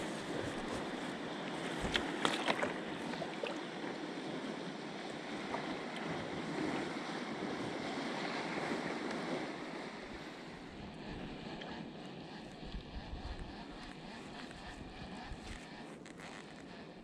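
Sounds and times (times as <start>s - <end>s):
water lapping against a hull: 0.0s - 17.0s
wind on microphone: 0.0s - 17.0s.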